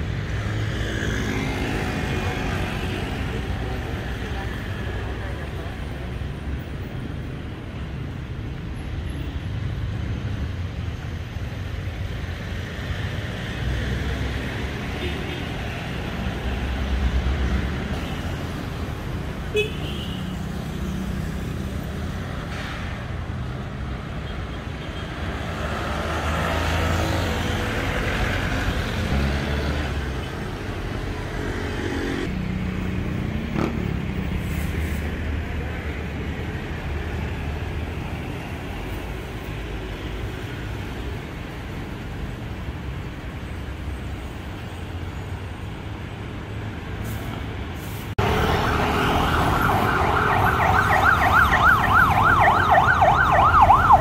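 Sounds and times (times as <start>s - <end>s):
cars and motorcycles passing: 0.0s - 54.0s.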